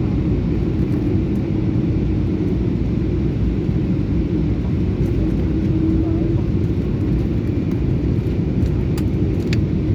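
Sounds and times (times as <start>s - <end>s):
airliner engines rumbling: 0.0s - 9.9s.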